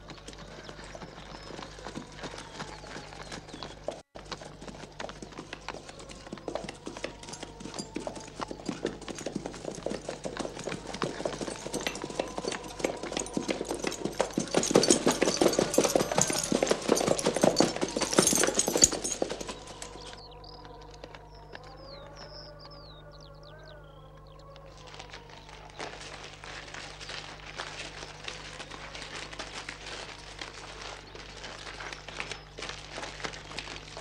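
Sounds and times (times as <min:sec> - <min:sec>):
hoofbeats of many horses: 0:00.0 - 0:34.0.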